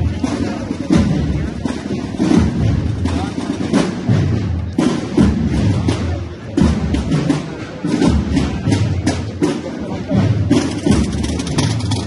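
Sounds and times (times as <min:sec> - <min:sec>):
band playing slow march: 0:00.0 - 0:12.0
heavy drum beats: 0:00.0 - 0:12.0.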